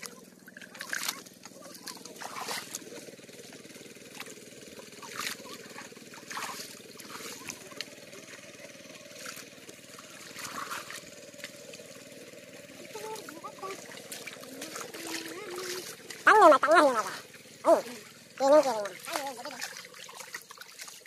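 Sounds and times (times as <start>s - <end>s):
splashing in shallow muddy water: 0.0s - 21.0s.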